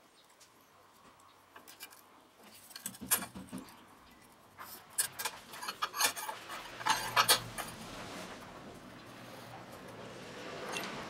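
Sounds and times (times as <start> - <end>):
metal clicks and scrapes: 1.5 - 11.0.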